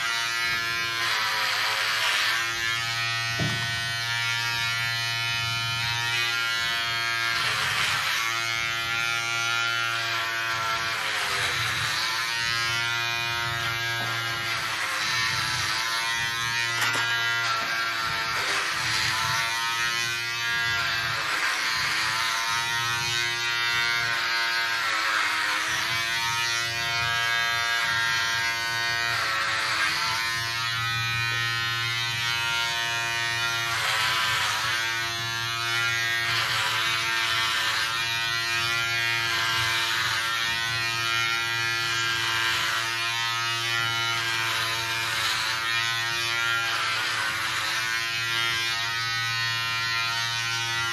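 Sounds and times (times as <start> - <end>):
electric hair clipper buzzing: 0.0 - 50.9.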